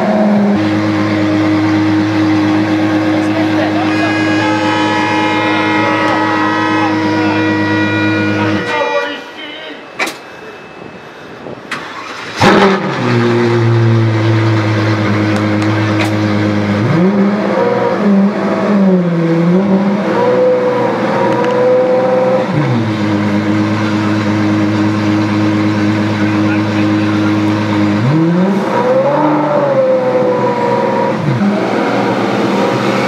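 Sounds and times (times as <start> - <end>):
car engine starting and revving: 0.0 - 8.6, 11.7 - 33.0.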